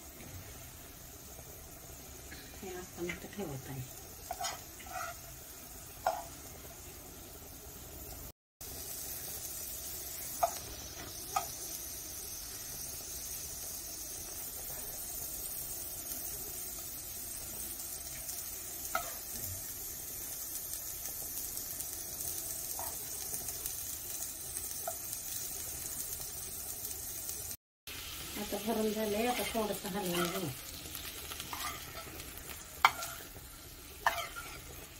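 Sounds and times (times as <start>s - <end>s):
oil sizzling in a frying pan: 0.0s - 34.9s.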